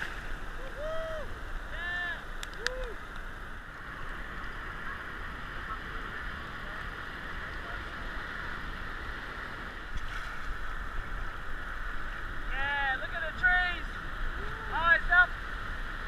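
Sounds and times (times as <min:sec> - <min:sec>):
breaking surf and choppy water: 0:00.0 - 0:16.0.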